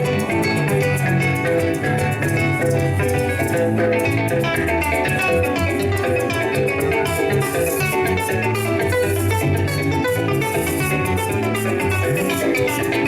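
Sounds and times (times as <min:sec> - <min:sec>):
maracas shaking: 0:00.0 - 0:13.0
plucked harp and cuatro: 0:00.0 - 0:13.0.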